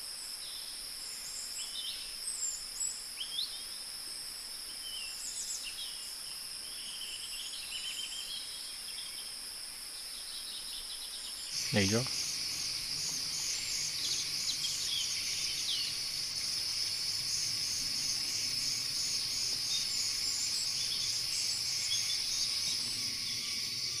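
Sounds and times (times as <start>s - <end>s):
faint bird chirps: 0.0s - 24.0s
pulsing insect chorus: 0.0s - 24.0s.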